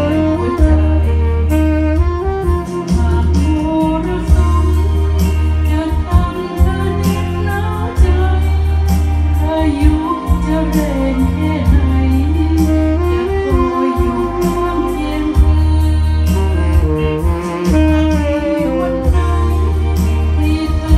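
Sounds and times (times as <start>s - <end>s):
band music: 0.0s - 20.9s
deep bass line: 0.0s - 20.9s.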